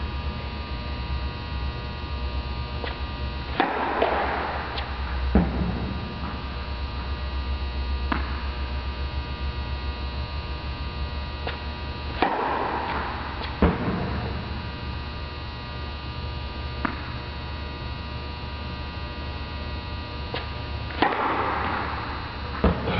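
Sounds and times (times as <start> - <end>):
electrical mains hum: 0.0 - 22.9.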